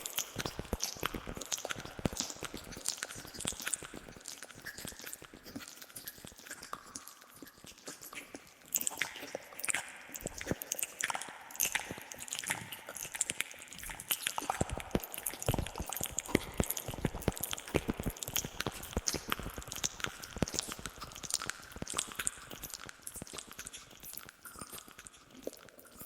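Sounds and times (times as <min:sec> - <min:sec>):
wet mouth clicks and smacks: 0:00.0 - 0:26.0.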